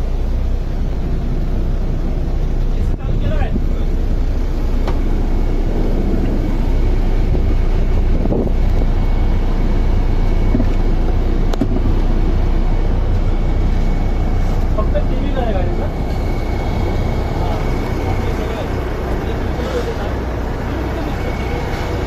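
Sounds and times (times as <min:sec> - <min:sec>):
bus engine low rumble: 0:00.0 - 0:22.0.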